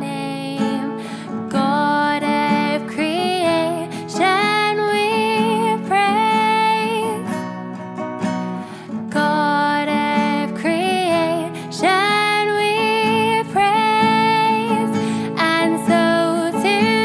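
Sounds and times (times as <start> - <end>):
woman singing: 0.0 - 7.6, 8.9 - 17.0
acoustic guitar: 0.0 - 17.0.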